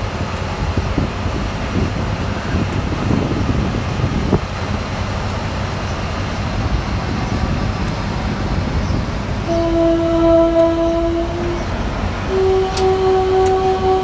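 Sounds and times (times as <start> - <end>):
diesel locomotive engine rumble: 0.0 - 14.0
wheel-on-rail noise: 0.0 - 14.0.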